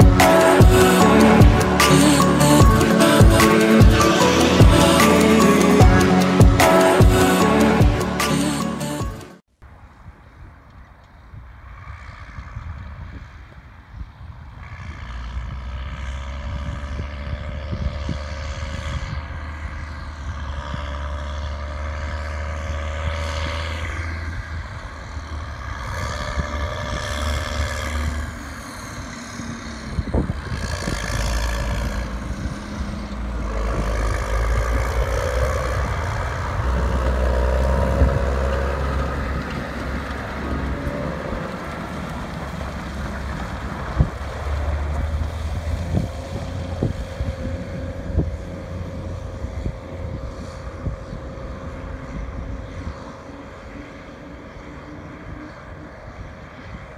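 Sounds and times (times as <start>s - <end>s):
diesel machinery engines running: 0.0s - 9.4s, 11.4s - 56.9s.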